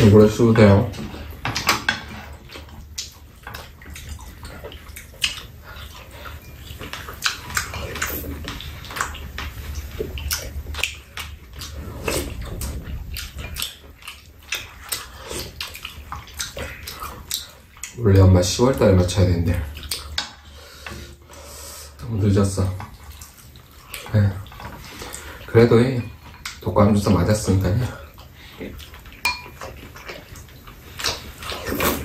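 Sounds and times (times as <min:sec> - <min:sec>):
chewing and smacking: 0:00.0 - 0:32.0
low steady hum: 0:00.0 - 0:32.0.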